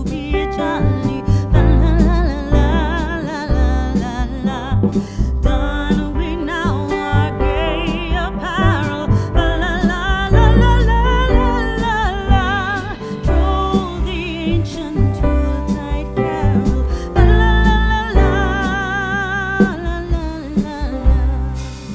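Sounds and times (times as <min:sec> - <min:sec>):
guitar: 0:00.0 - 0:21.9
person singing: 0:00.0 - 0:21.9
steady bass: 0:00.0 - 0:21.9.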